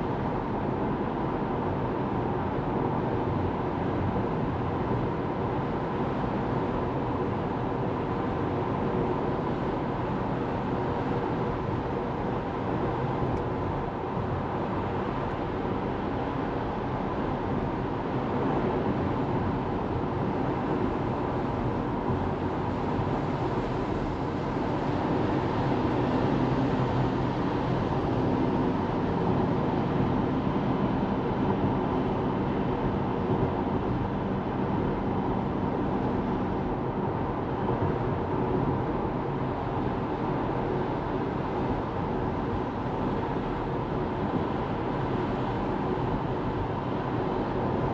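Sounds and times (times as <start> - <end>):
car road and tyre noise: 0.0 - 47.9.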